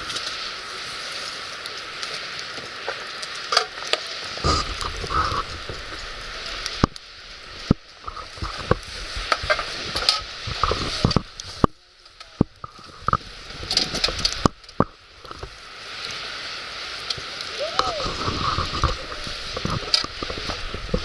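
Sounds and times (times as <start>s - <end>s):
campfire crackling and hissing: 0.0s - 21.0s
sharp fire pops: 0.0s - 21.0s.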